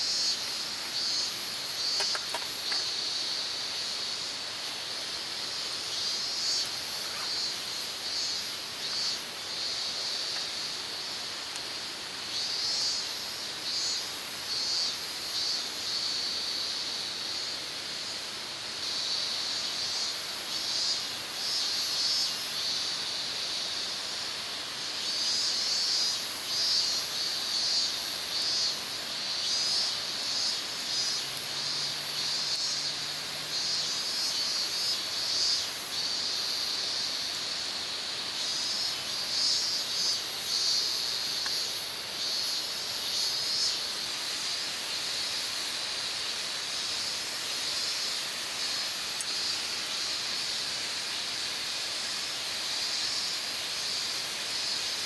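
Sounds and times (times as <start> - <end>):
insects buzzing and chirping: 0.0 - 55.0.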